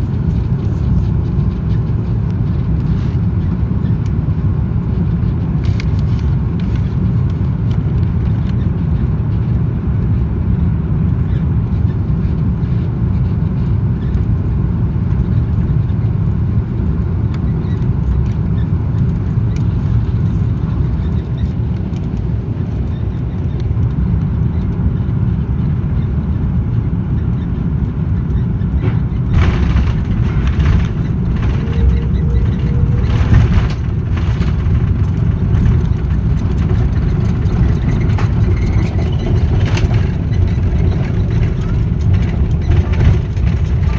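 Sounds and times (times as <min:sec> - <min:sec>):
jet engine cabin rumble: 0:00.0 - 0:43.9.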